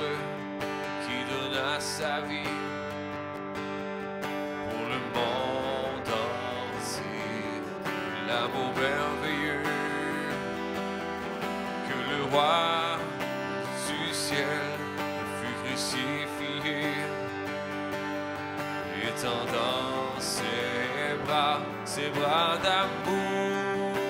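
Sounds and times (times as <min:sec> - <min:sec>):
man singing: 0:00.0 - 0:03.1, 0:04.6 - 0:24.0
acoustic guitar strumming: 0:00.0 - 0:24.0.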